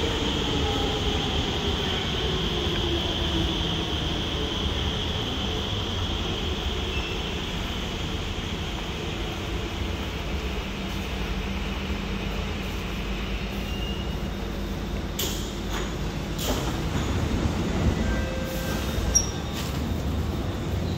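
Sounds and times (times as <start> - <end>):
train humming at platform: 0.0 - 20.9.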